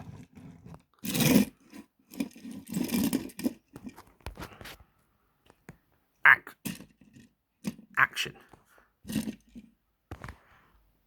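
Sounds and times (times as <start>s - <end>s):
objects rustling and scraping: 0.0s - 5.9s, 6.6s - 10.9s.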